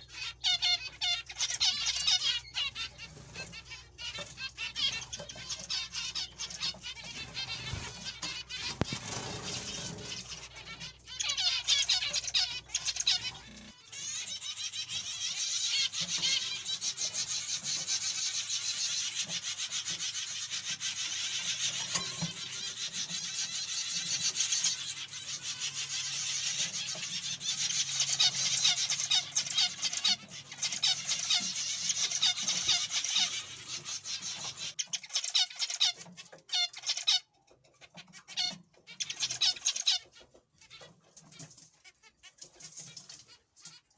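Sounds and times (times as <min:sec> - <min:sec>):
zebra finches chattering: 0:00.0 - 0:43.9.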